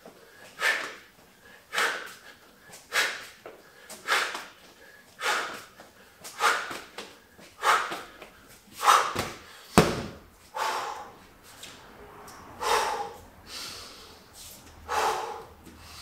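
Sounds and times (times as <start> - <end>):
man breathing forcefully: 0.0 - 11.8, 12.4 - 16.0.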